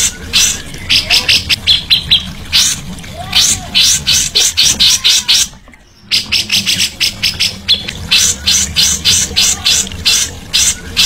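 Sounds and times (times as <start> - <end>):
low steady hum: 0.0 - 11.0
songbird harsh raspy notes: 0.0 - 11.0.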